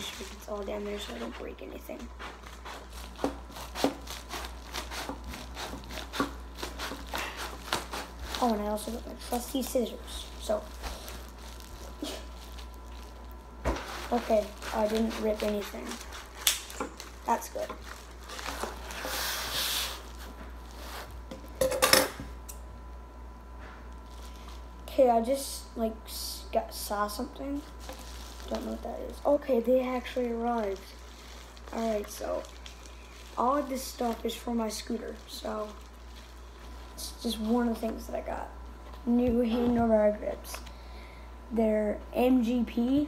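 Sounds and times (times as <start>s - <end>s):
packaging rustling and crinkling: 0.0s - 21.6s, 23.9s - 25.0s, 27.5s - 40.7s.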